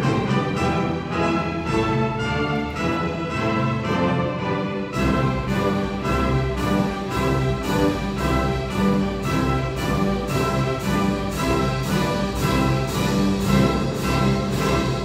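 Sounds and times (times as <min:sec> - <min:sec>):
symphony orchestra playing: 0:00.0 - 0:15.0.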